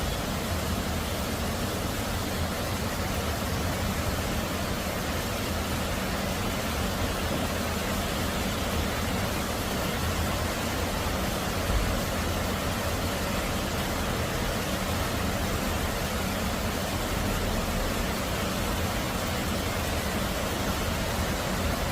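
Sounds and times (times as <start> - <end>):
heavy rain hissing: 0.0 - 21.9.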